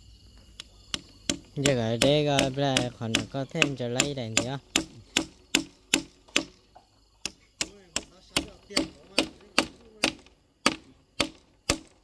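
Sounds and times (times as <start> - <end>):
hammer driving nails into wood: 0.9 - 6.6, 7.2 - 12.0.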